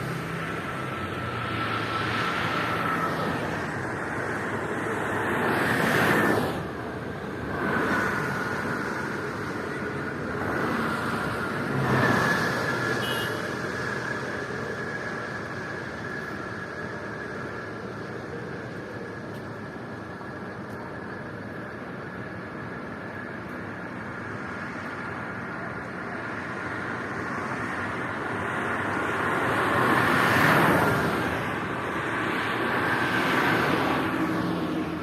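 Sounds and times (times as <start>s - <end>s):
steady traffic hum: 0.0s - 35.0s
vehicles passing at speed: 0.0s - 35.0s.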